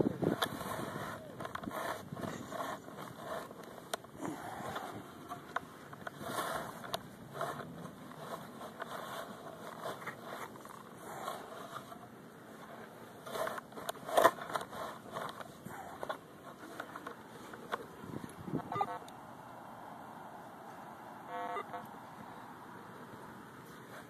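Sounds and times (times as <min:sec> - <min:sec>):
loose soil rustling and crumbling: 0:00.0 - 0:19.7.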